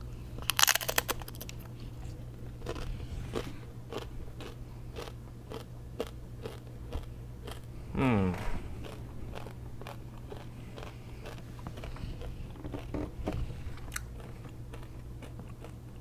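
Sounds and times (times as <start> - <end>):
chip crunching: 0.4 - 7.7, 8.8 - 16.0
chewing crunches: 0.4 - 7.8, 8.4 - 16.0.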